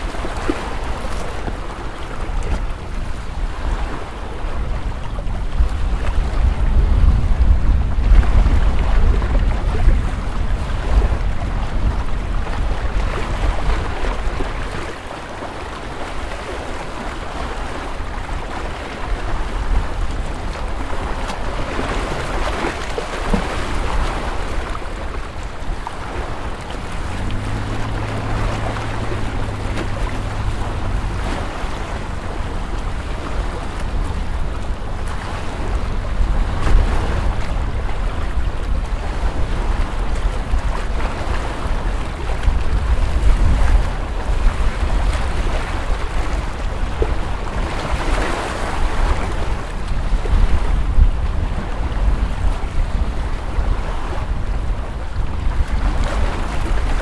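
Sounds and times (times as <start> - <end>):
lake water washing on shore: 0.0 - 57.0
wind rumbling on microphone: 0.0 - 57.0.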